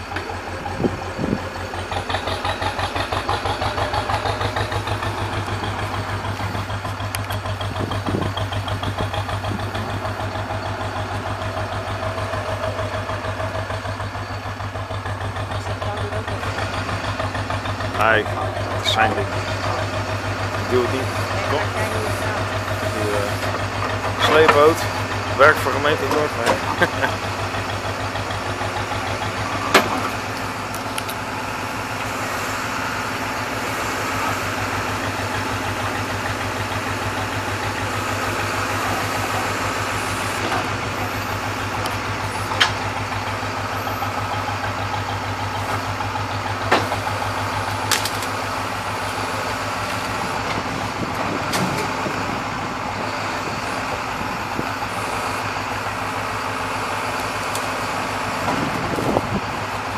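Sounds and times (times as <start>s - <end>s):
engine idling with low hum: 0.0s - 59.9s.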